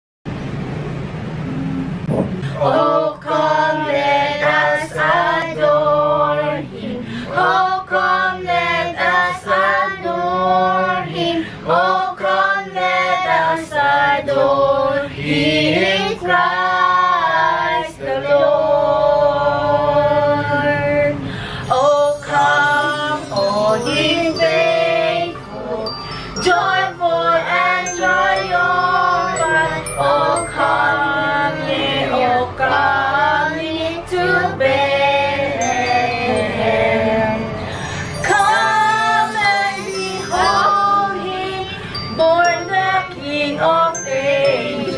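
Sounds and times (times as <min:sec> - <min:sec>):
family singing a carol: 0:02.4 - 0:44.9.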